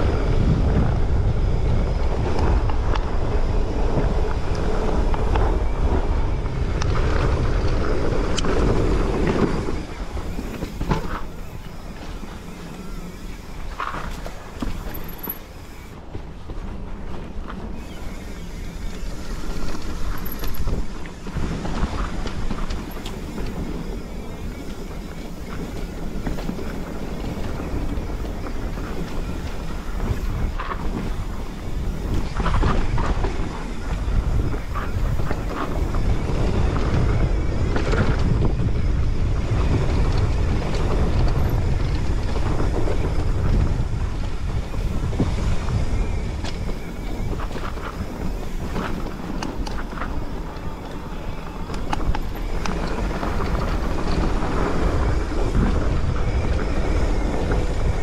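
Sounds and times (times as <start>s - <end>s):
bike tyres rolling over dirt: 0.0s - 58.0s
wind buffeting microphone: 0.0s - 58.0s
bike clattering over bumps: 1.6s - 58.0s.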